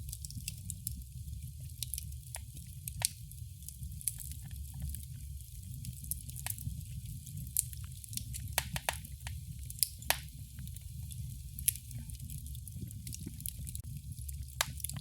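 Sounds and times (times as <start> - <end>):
fire pops and snaps: 0.0 - 15.0
flames rumbling: 0.0 - 15.0.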